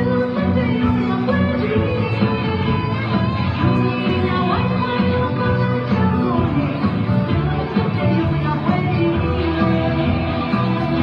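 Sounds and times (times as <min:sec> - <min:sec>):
dance music with steady beat: 0:00.0 - 0:11.0.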